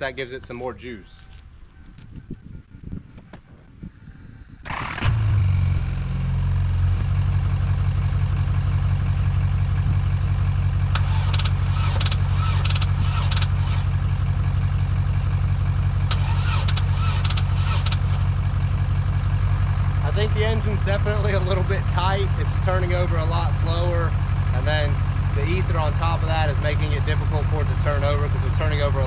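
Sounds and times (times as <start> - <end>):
truck engine starting and idling: 3.9 - 29.0.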